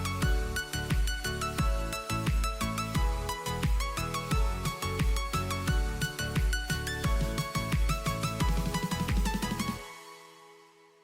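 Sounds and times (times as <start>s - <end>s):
electronic pop music: 0.0s - 10.8s.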